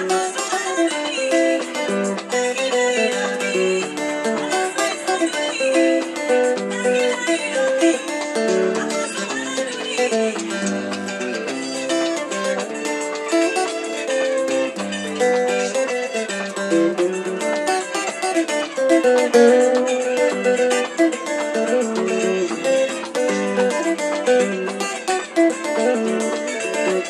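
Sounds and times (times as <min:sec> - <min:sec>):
electric guitar picked melody: 0:00.0 - 0:27.0.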